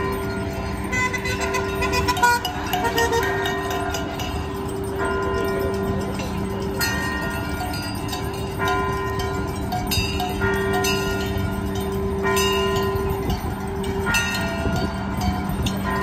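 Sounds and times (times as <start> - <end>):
fire truck bell ringing: 0.0 - 16.0.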